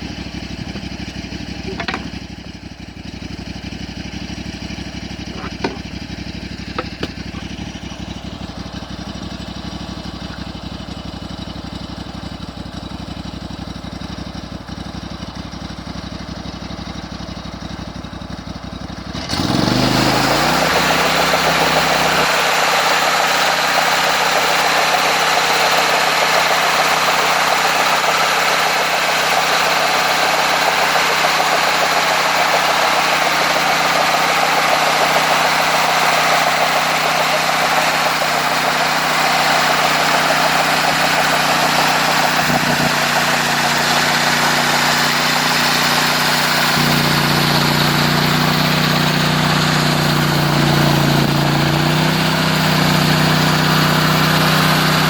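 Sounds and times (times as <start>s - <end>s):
sawmill engine: 0.0s - 55.0s.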